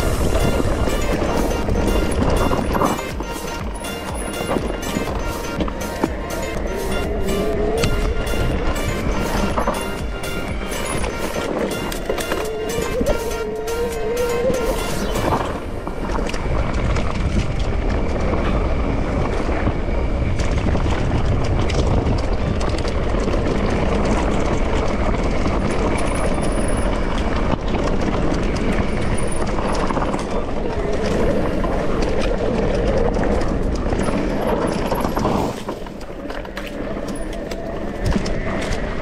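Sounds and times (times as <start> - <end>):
bike tyre noise: 0.0 - 39.0
wind rumble on microphone: 0.0 - 39.0.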